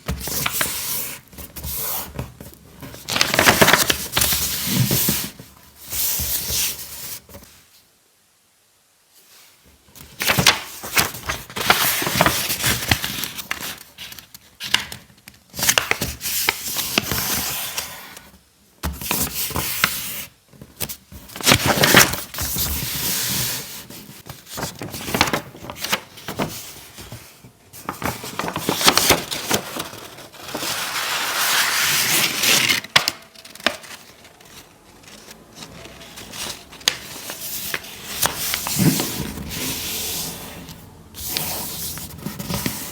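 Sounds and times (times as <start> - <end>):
paper rustling and crinkling: 0.0 - 7.5, 9.6 - 42.9.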